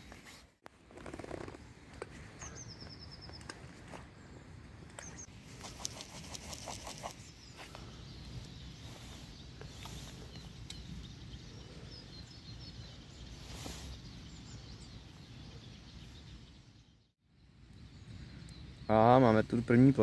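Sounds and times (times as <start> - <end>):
small birds chirping: 1.0 - 20.0.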